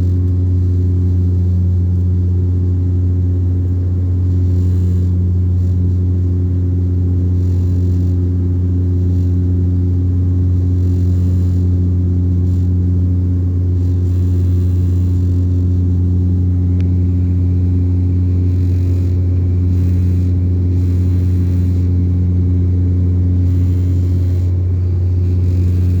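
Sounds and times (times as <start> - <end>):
light airplane engine drone: 0.0 - 26.0.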